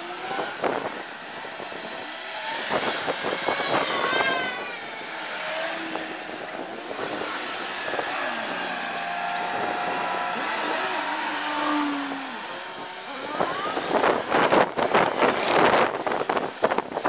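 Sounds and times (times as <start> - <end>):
motor scooter engine revving: 0.0 - 17.0
traffic noise: 0.0 - 17.0.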